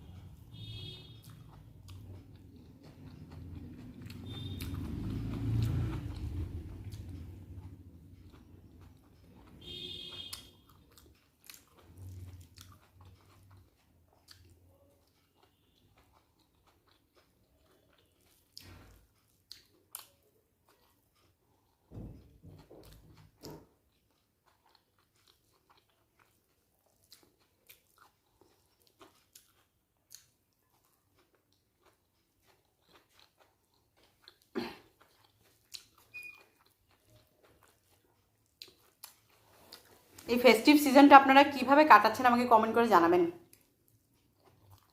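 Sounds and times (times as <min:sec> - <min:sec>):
person chewing food: 0:00.0 - 0:40.3, 0:43.4 - 0:44.9.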